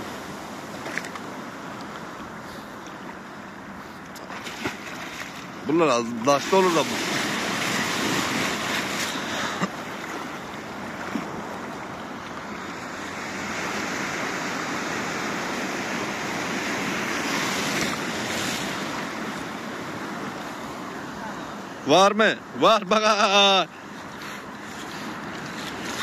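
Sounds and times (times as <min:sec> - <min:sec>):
small waves lapping in shallows: 0:00.0 - 0:26.0.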